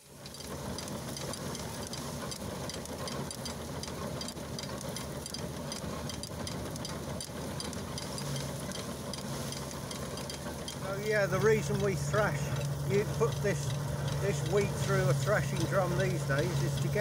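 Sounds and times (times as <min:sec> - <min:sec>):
mechanical hum: 0:00.0 - 0:17.0
threshing drum clatter: 0:00.0 - 0:17.0
faint regular ticking: 0:00.1 - 0:17.0.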